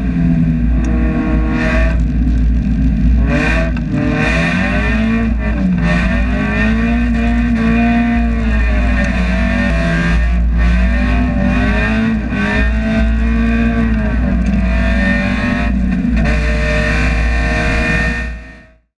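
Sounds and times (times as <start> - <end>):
race car engine revving: 0.0 - 18.8.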